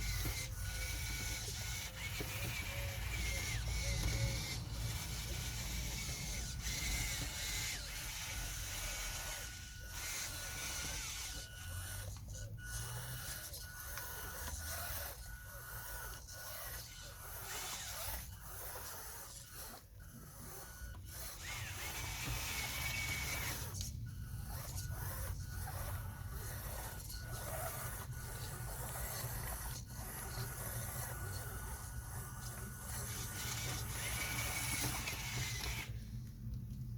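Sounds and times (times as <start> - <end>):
small electric motors whining: 0.0 - 36.4.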